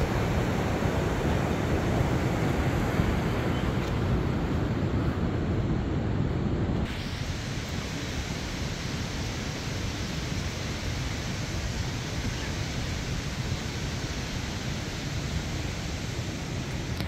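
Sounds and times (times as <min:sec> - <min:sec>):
rushing mountain river: 0:00.0 - 0:17.0.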